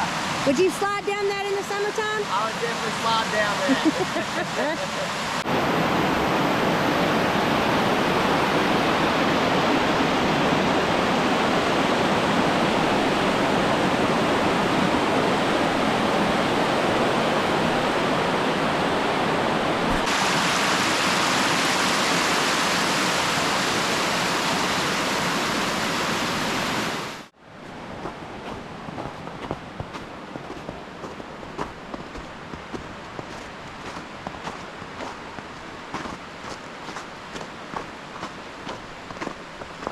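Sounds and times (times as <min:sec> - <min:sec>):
creek rushing over rock: 0:00.0 - 0:39.9.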